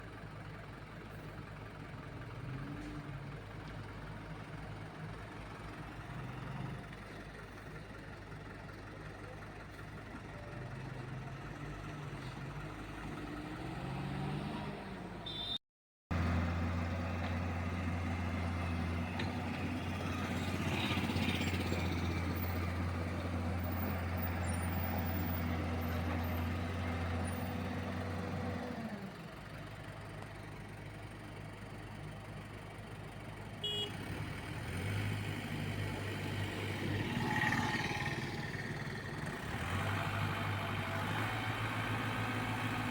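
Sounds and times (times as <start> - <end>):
lorry engines on a highway: 0.0 - 42.9.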